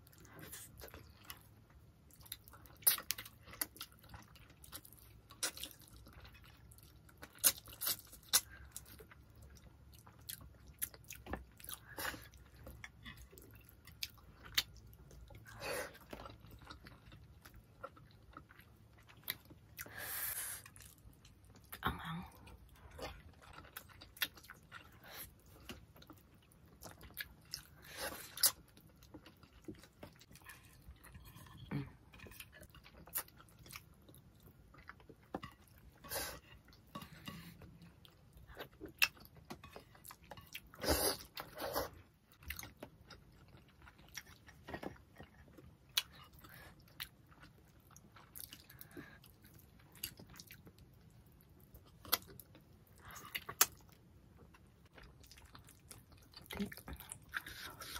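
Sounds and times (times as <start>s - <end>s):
close chewing and mouth noises: 0.0s - 57.9s.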